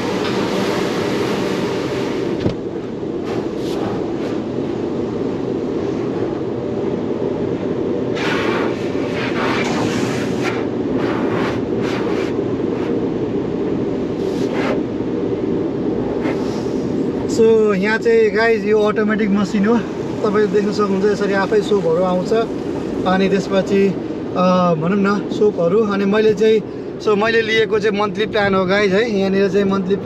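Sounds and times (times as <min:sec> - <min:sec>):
car wash machinery and water: 0:00.0 - 0:30.0.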